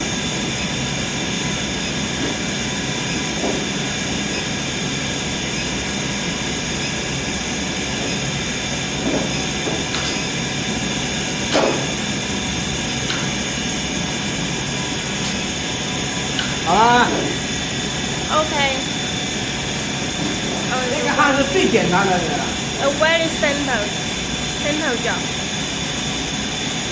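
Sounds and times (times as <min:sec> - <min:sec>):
induction heater humming with tones: 0:00.0 - 0:26.9.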